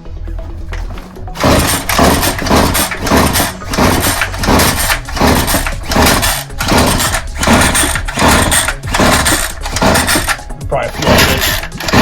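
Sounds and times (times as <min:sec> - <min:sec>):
lawn mower engine cranking: 0:00.6 - 0:12.0.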